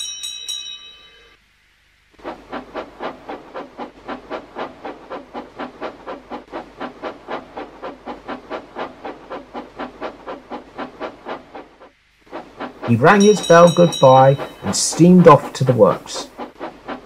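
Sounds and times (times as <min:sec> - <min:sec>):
steam locomotive chuffing: 0:02.2 - 0:17.0.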